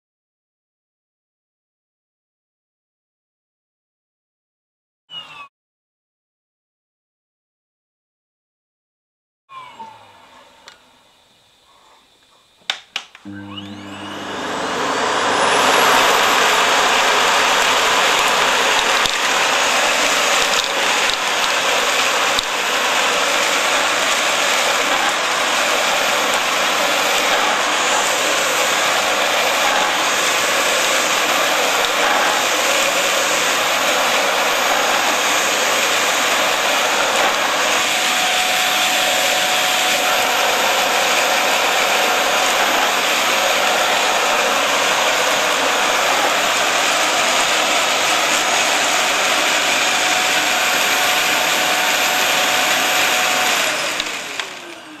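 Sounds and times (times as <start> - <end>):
vacuum cleaner running: 9.5 - 55.0.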